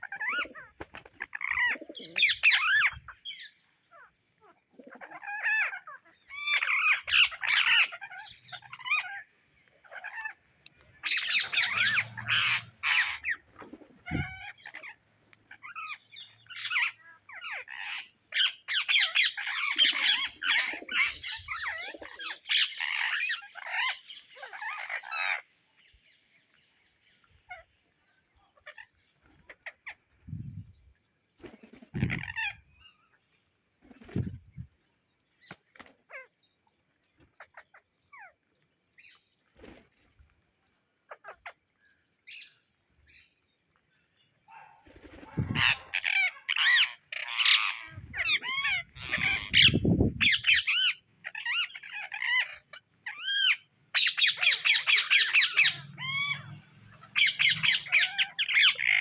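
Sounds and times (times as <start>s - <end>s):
parakeets chattering and squawking: 0.0s - 30.3s, 31.4s - 33.3s, 35.4s - 36.4s, 37.2s - 40.1s, 41.0s - 43.4s, 44.2s - 59.0s.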